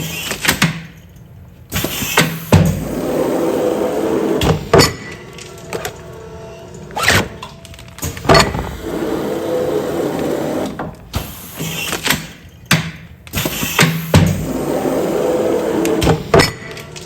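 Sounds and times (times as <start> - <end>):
sealing machine motor running: 1.8 - 12.1, 13.4 - 17.0.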